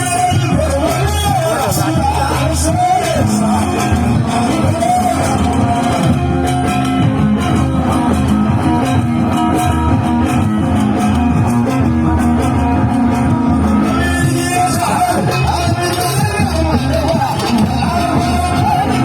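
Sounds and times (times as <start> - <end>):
live band instrumental music: 0.0 - 19.0.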